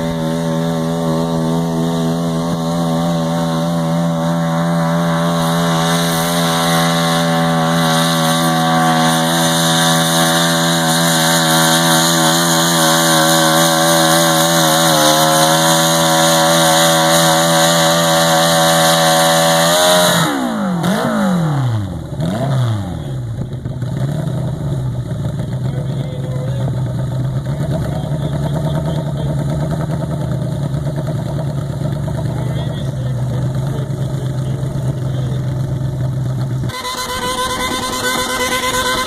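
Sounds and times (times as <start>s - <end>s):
small engine revving and idling: 0.0s - 39.0s.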